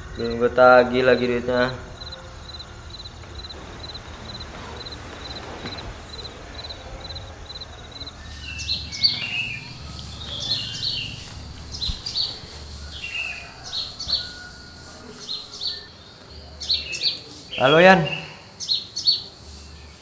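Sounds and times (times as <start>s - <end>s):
cricket chirping: 0.0s - 20.0s
small birds chirping: 0.0s - 20.0s.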